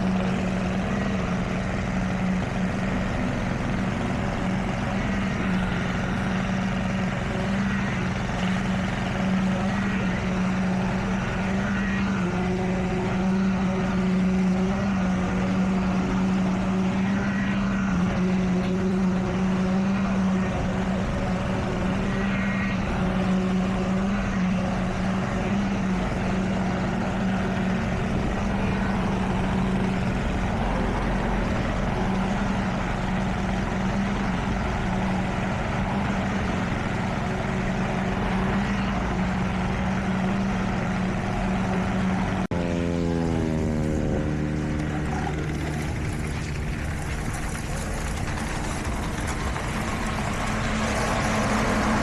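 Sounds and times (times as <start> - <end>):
motor humming: 0.0 - 52.0.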